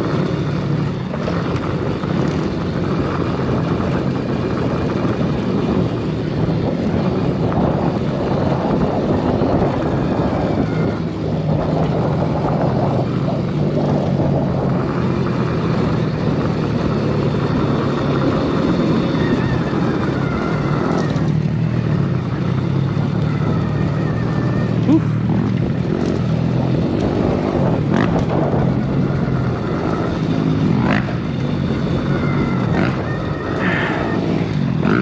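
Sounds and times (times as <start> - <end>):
electric dirt bike riding: 0.0 - 35.0.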